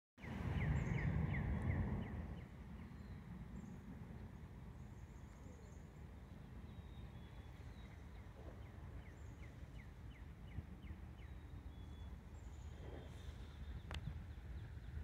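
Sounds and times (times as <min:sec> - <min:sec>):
bird chirping: 0:00.2 - 0:15.0.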